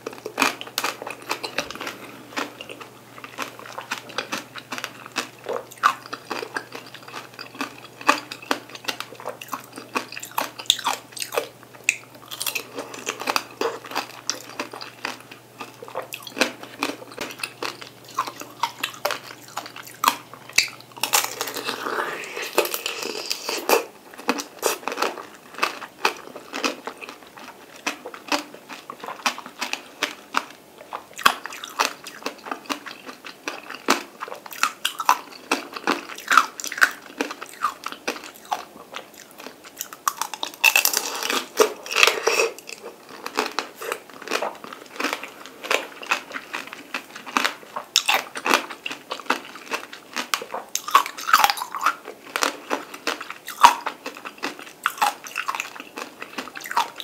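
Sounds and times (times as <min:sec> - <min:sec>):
chewing mandarin segments: 0:00.0 - 0:57.0.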